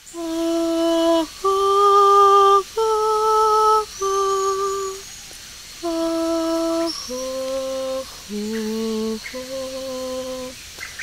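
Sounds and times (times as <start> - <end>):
woman singing wordless melody: 0.0 - 10.7.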